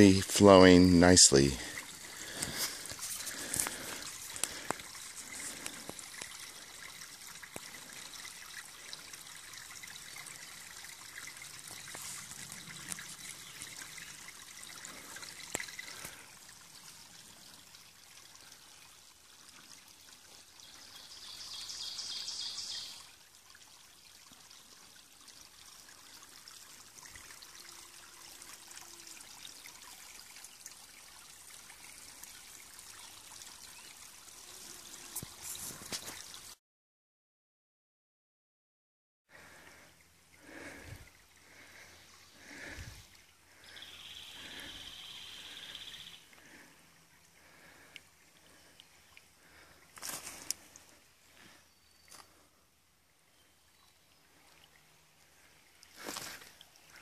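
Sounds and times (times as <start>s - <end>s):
water trickling over gravel: 0.0s - 36.6s, 39.3s - 44.7s, 45.4s - 57.0s.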